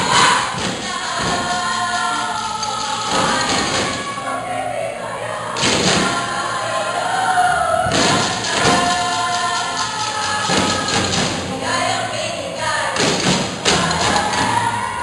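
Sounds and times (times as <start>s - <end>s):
sustained singing voices: 0.0s - 15.0s.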